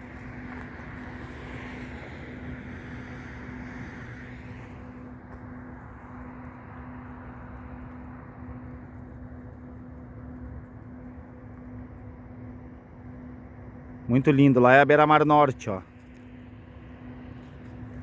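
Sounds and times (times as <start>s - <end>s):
constant low hum: 0.0s - 18.0s
distant traffic rumble: 0.0s - 18.0s.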